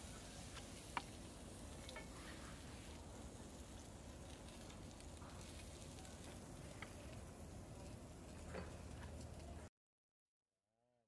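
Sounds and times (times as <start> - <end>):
meat sizzling on grill: 0.0 - 9.6.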